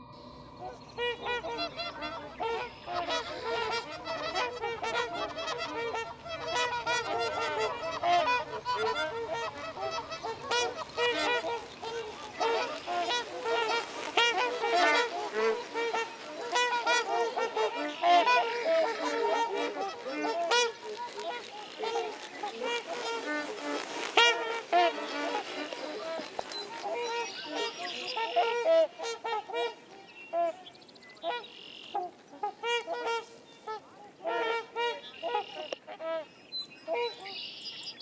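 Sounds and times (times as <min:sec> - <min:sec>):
geese honking: 0:00.0 - 0:30.6, 0:31.2 - 0:36.3, 0:36.9 - 0:37.7.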